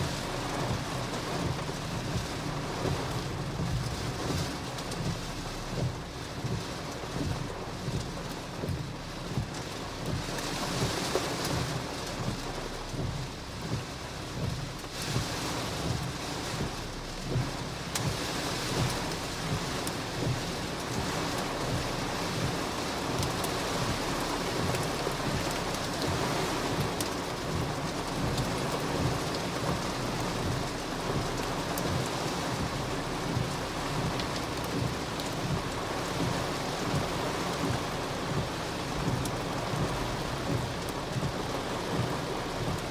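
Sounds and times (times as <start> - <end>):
heavy rain on car roof: 0.0 - 42.9
windshield wipers sweeping: 0.0 - 42.9.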